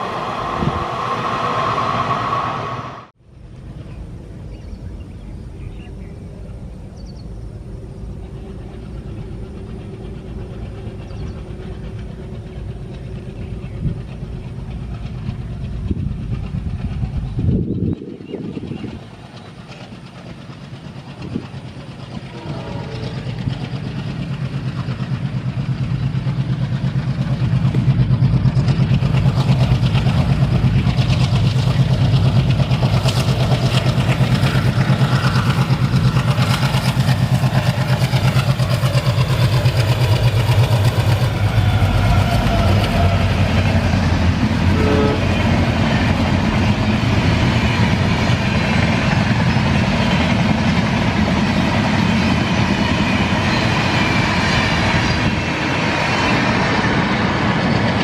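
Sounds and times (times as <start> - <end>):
diesel locomotive engine throb: 0.0 - 58.0
rail clatter: 8.7 - 58.0.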